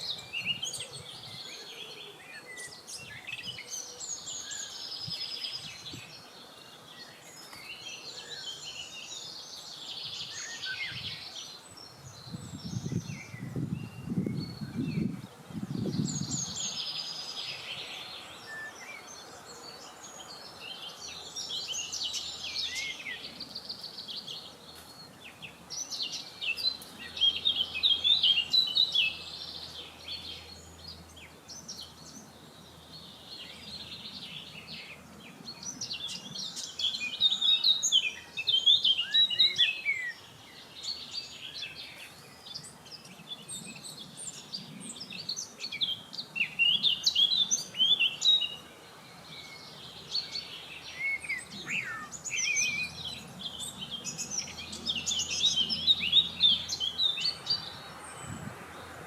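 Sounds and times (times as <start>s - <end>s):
birds chirping and trilling: 0.0s - 59.0s
faint outdoor hiss: 0.0s - 59.0s.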